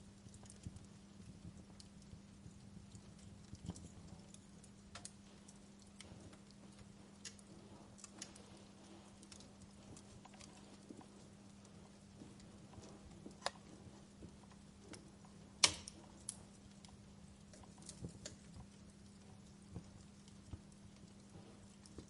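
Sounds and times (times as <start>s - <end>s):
fireplace crackling: 0.0s - 22.0s
steady low hum: 0.0s - 22.0s.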